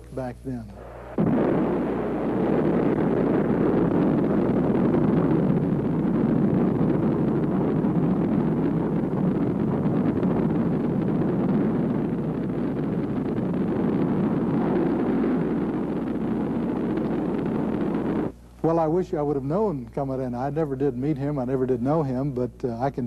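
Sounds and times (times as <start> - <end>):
rocket engines rumbling: 0.0 - 23.0.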